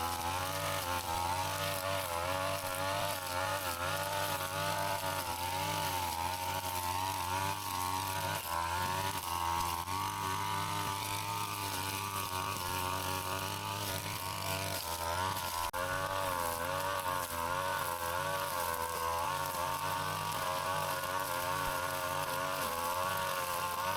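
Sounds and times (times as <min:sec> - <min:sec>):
brush cutter engine cutting grass: 0:00.0 - 0:23.9.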